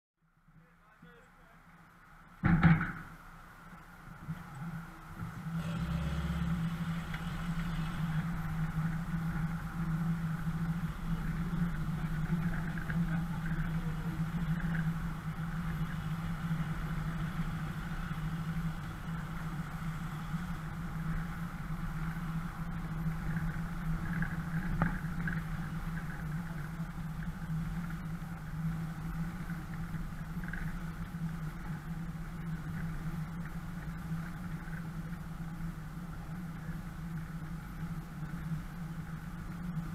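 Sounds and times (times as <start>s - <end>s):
engine running at low revs: 2.3s - 39.9s.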